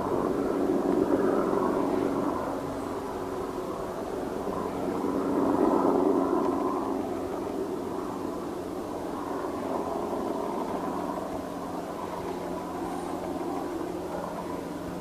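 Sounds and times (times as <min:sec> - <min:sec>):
faint constant hum: 0:00.0 - 0:15.0
low background rumble: 0:00.0 - 0:15.0.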